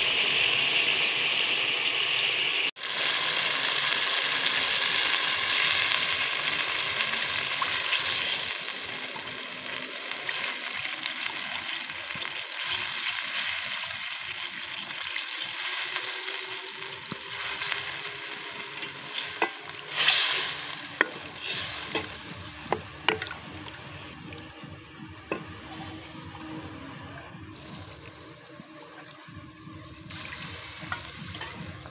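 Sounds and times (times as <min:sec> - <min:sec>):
curry sizzling in a pot: 0:00.0 - 0:23.9, 0:29.8 - 0:31.9.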